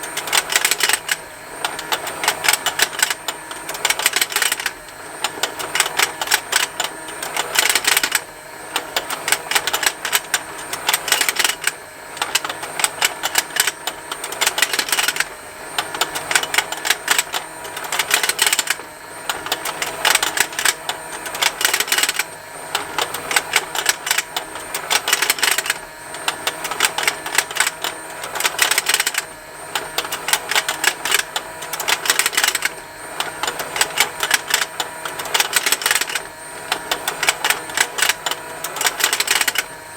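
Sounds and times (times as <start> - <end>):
toy motor plastic ticking: 0.0 - 39.7.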